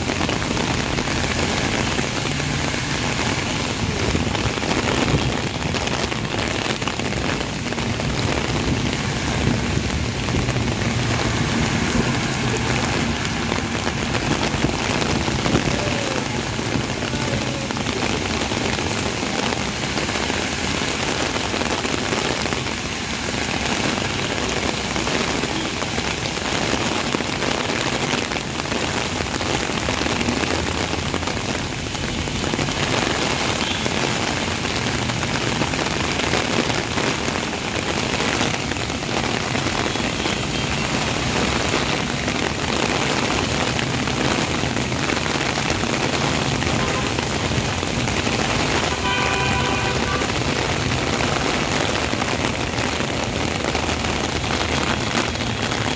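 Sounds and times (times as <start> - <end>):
heavy rain on wet road: 0.0 - 55.9.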